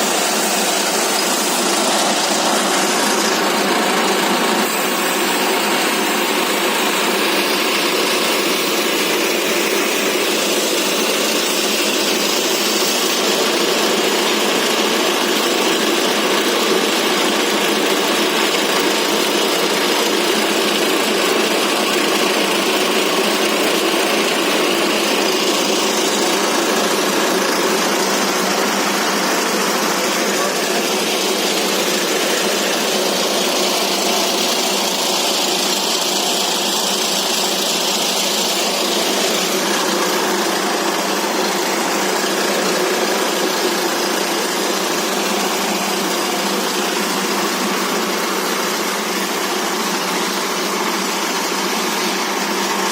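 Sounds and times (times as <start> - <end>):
diesel engine running: 0.0 - 52.9
pellet machine running: 0.0 - 52.9.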